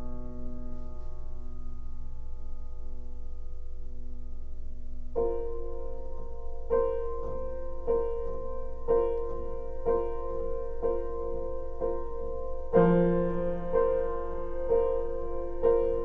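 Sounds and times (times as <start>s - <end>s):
piano chords ringing: 0.0s - 16.0s.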